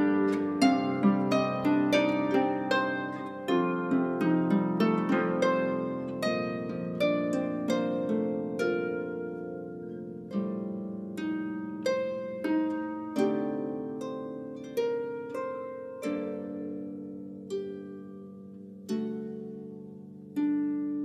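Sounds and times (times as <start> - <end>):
harp melody: 0.0 - 21.0.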